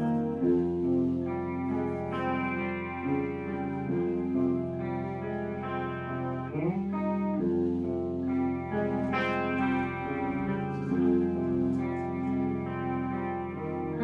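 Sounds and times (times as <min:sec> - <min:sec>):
sustained guitar chords: 0:00.0 - 0:14.0.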